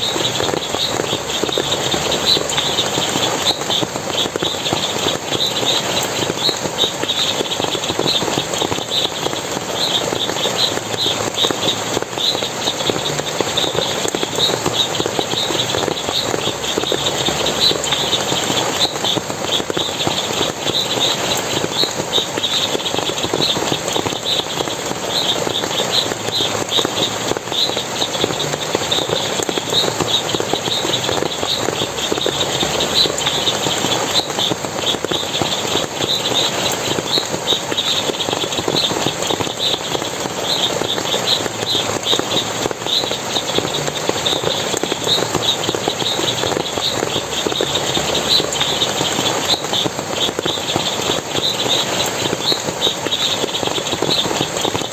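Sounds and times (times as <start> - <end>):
stream splashing: 0.0 - 54.9.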